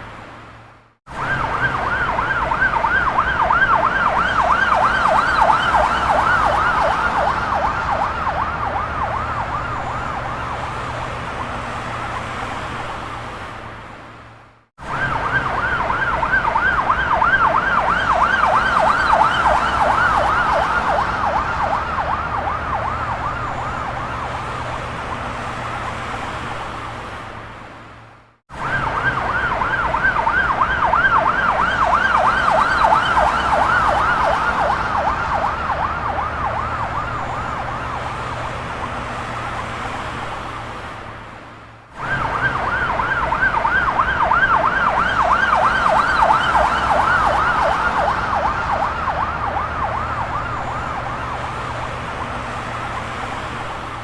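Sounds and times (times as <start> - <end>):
ambulance siren yelping: 1.1 - 13.2, 14.8 - 25.7, 28.5 - 40.4, 41.9 - 54.0.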